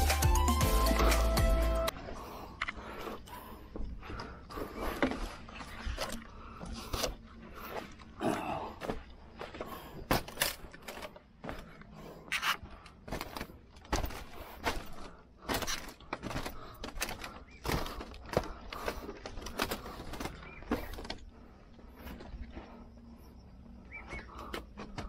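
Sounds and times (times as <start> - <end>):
footsteps on bamboo floor: 1.9 - 22.9
bamboo creaking: 1.9 - 25.0.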